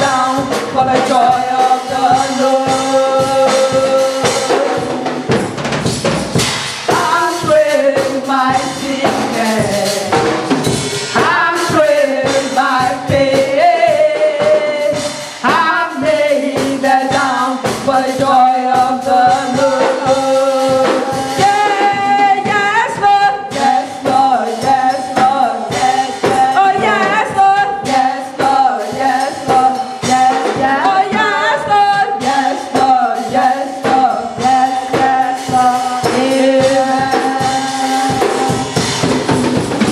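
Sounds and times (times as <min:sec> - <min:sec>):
choir singing gospel song: 0:00.0 - 0:39.9
instrumental accompaniment: 0:00.0 - 0:39.9
percussion beat: 0:00.0 - 0:39.9.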